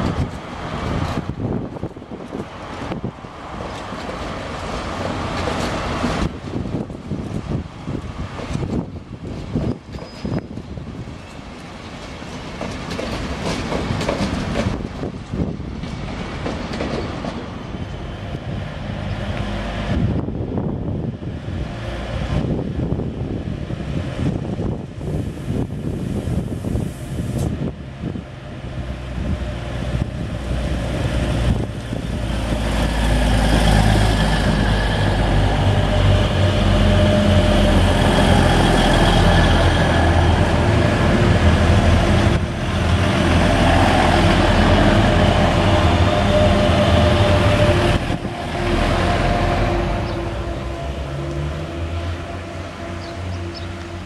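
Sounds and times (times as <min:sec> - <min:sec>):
diesel train engines droning: 0:00.0 - 0:54.0
train wheels rumbling: 0:00.0 - 0:54.0.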